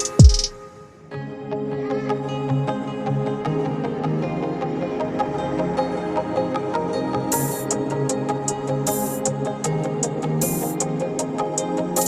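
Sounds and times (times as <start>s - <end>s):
soft new-age instrumental music: 0.0s - 12.0s.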